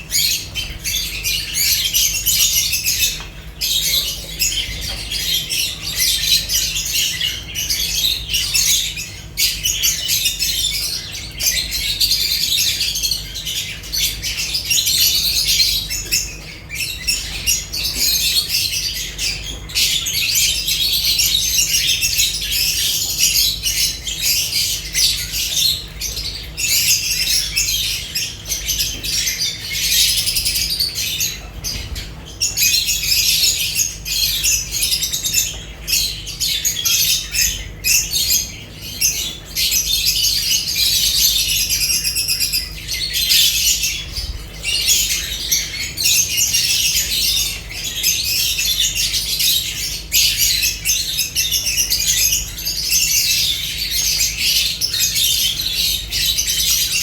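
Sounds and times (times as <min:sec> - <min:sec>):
lovebirds chattering and squawking: 0:00.0 - 0:57.0.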